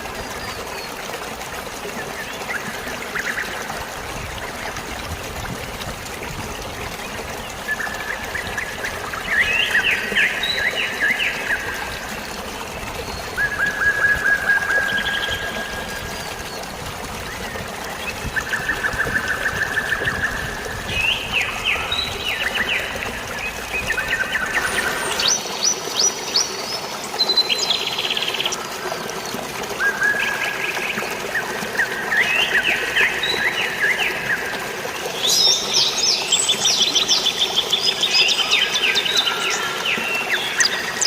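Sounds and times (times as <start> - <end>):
trickling water: 0.0 - 41.0.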